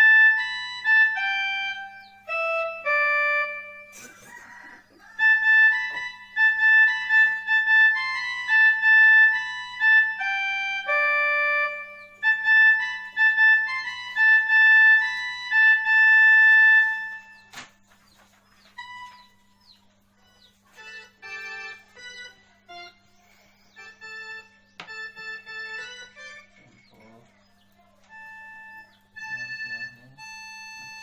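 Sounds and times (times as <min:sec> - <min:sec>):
electronic keyboard melody: 0:00.0 - 0:17.9, 0:18.5 - 0:31.0.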